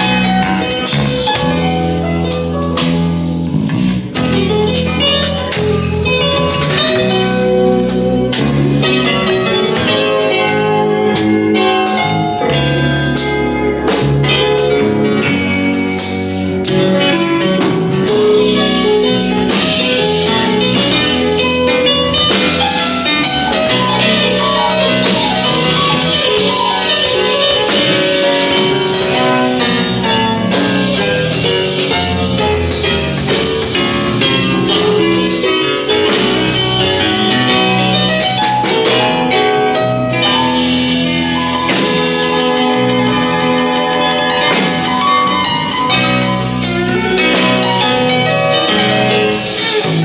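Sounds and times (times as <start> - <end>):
bass: 0.0 - 50.0
drum kit: 0.0 - 50.0
electric guitars: 0.0 - 50.0.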